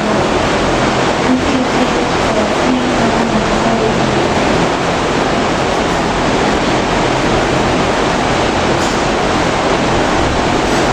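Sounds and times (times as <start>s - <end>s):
loud steady rushing noise: 0.0s - 10.9s.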